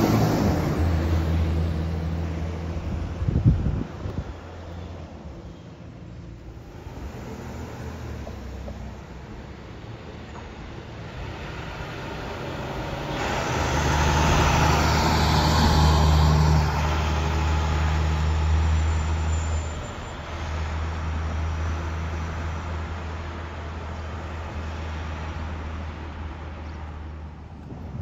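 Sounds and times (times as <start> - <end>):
bus engine droning: 0.0 - 28.0
road noise: 0.0 - 28.0.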